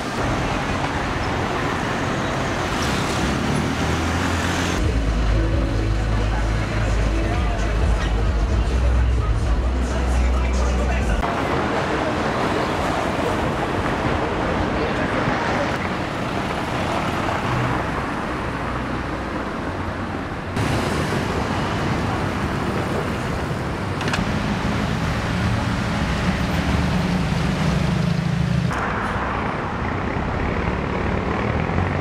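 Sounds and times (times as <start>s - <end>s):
cars passing: 0.0s - 32.0s.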